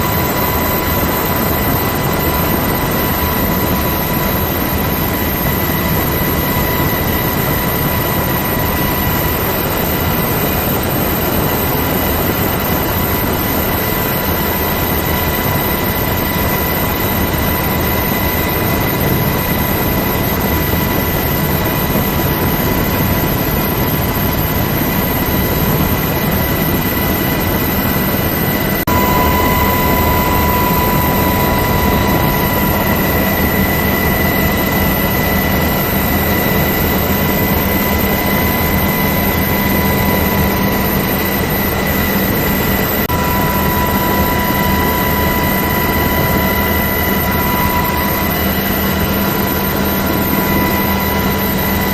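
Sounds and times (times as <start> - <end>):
aircraft turbine engine whine: 0.0 - 51.9.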